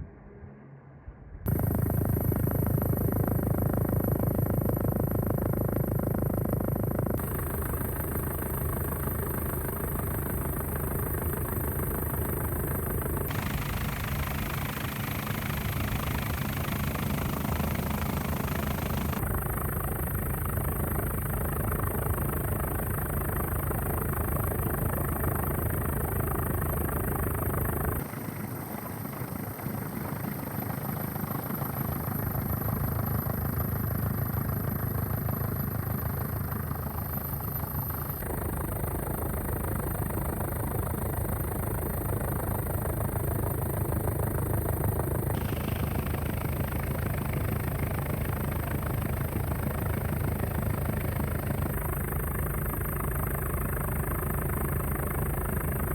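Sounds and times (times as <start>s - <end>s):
thin high whine: 0.0s - 28.3s, 31.4s - 55.9s
helicopter rotor chop and engine: 1.4s - 55.9s.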